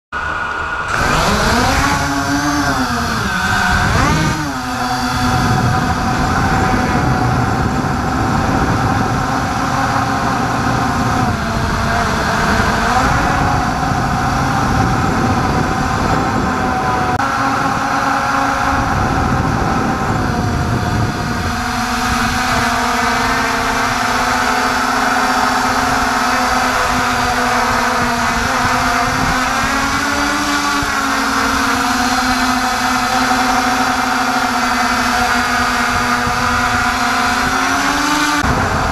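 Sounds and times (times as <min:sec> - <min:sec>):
drone motors whining: 0:00.2 - 0:38.9.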